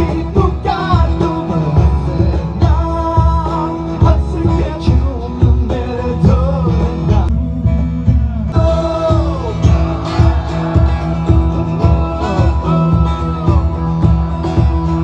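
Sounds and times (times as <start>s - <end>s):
cajon beat: 0.0s - 15.0s
electric guitar strummed: 0.0s - 15.0s
man singing: 0.0s - 15.0s.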